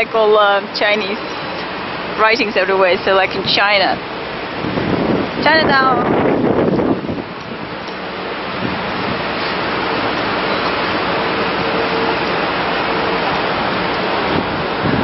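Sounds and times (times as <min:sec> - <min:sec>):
car traffic rushing: 0:00.0 - 0:15.0.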